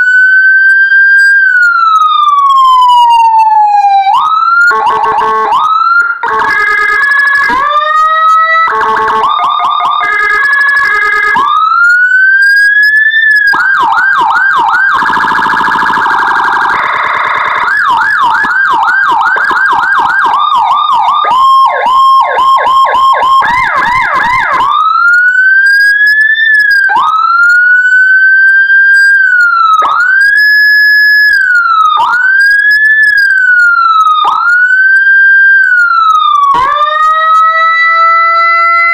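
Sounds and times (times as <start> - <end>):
electronic police siren: 0.0 - 38.9.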